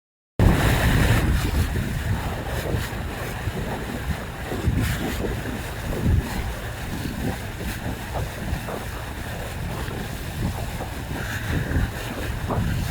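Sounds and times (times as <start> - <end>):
water splashing against boat: 0.4 - 12.9
wind buffeting microphone: 0.4 - 12.9.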